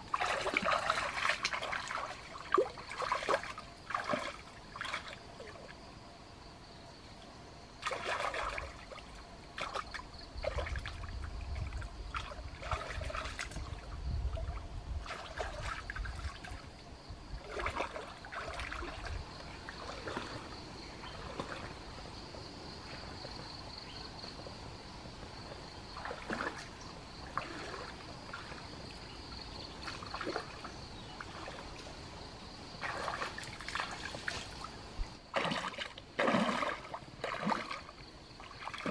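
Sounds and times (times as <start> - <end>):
water splashing and sloshing: 0.0 - 6.2, 7.1 - 38.9
stream trickling: 0.0 - 38.9.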